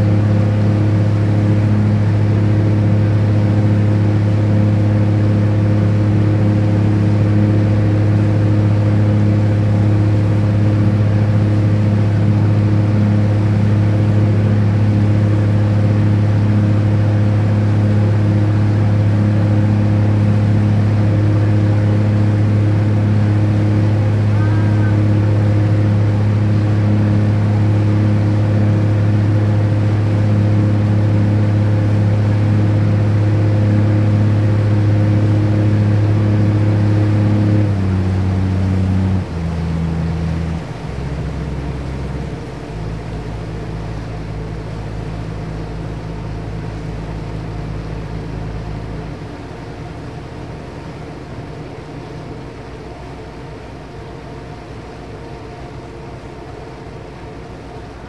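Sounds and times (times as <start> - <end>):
ferry engine humming: 0.0 - 58.0.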